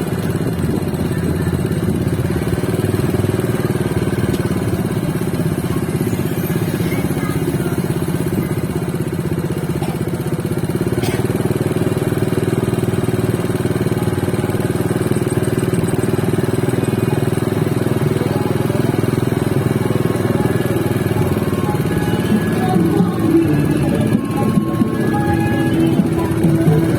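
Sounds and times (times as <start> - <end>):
small engine running: 0.0 - 26.9.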